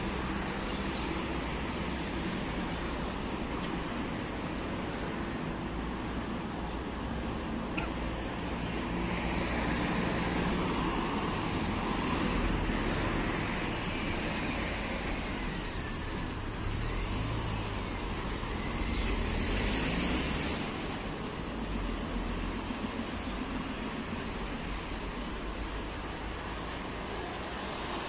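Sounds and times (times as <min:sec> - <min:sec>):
cars passing on road: 0:00.0 - 0:28.0.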